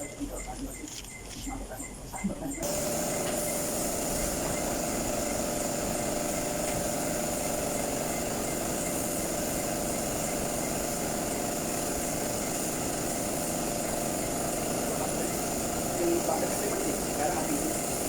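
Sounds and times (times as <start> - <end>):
motor humming with high whine: 0.0 - 18.0.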